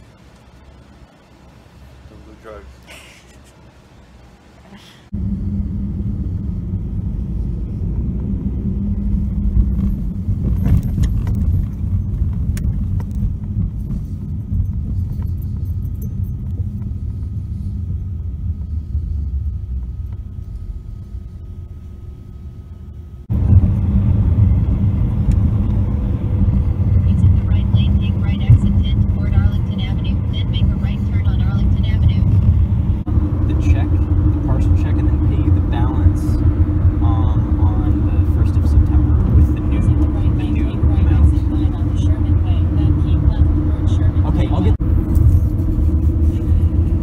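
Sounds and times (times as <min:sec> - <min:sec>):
car engine and road rumble: 0:00.0 - 0:47.0.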